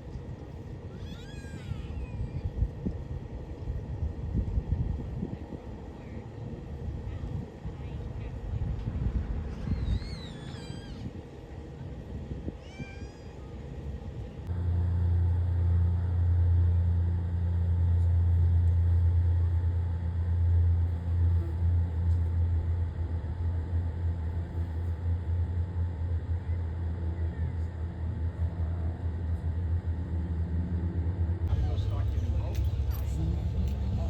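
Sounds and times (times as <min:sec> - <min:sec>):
aircraft piston engine humming: 0:00.0 - 0:34.0.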